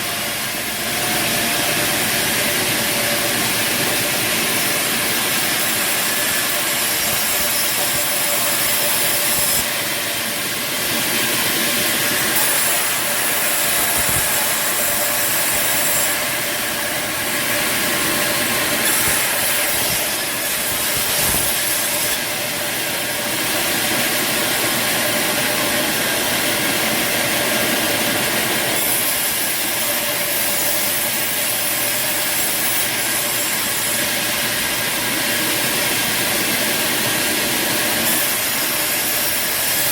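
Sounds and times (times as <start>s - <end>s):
bandsaw cutting timber: 0.0s - 39.9s.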